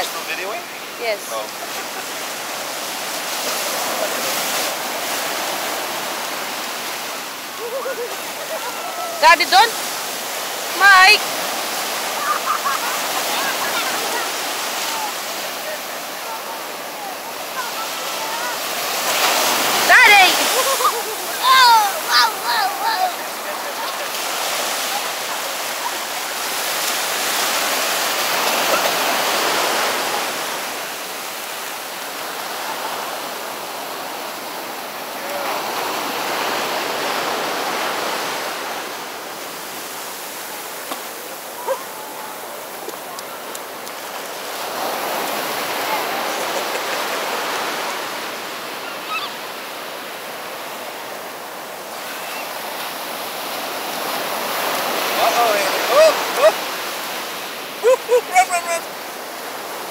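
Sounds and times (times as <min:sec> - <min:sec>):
ocean surf breaking on beach: 0:00.0 - 0:59.9.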